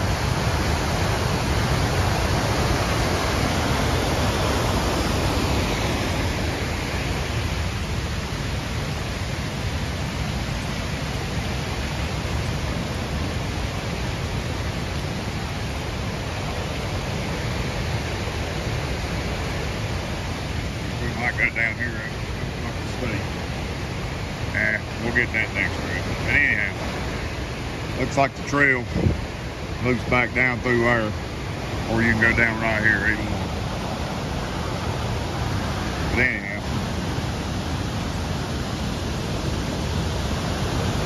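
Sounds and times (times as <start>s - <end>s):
flooded creek rushing: 0.0s - 41.0s
waterfall roar: 0.0s - 41.0s.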